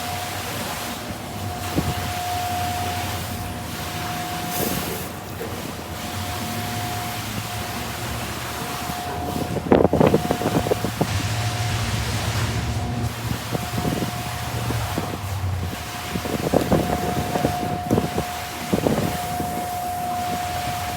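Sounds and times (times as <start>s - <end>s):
car wash spray and motor: 0.0s - 20.9s
thin whine: 0.0s - 20.9s.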